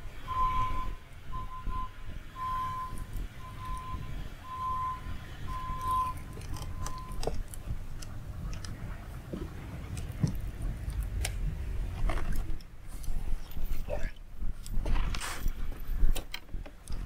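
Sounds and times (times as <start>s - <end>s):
low rumble: 0.0s - 16.2s.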